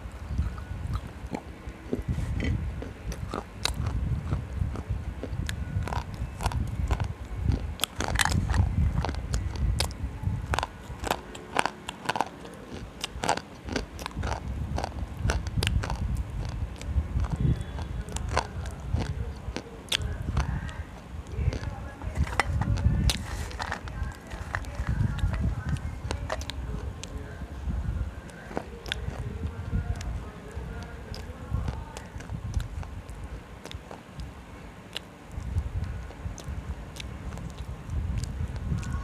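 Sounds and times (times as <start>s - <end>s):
low chewing rumble: 0.0s - 39.0s
crunching snaps of chewing: 0.1s - 27.6s, 28.2s - 39.0s.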